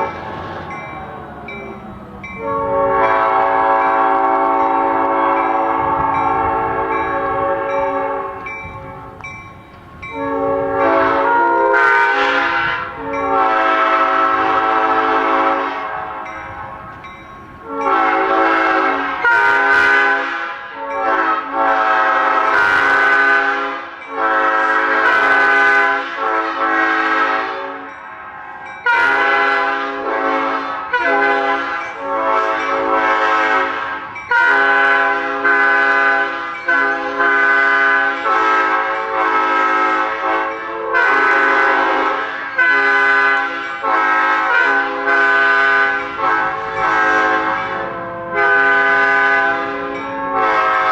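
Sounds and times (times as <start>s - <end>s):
locomotive air horn blasts: 0.0s - 0.8s, 2.0s - 9.3s, 10.0s - 50.9s.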